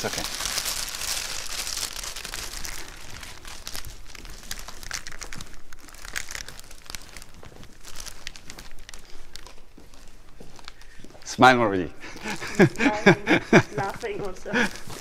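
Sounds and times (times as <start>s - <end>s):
paper packing rustling and crinkling: 0.0s - 11.2s, 12.1s - 15.0s.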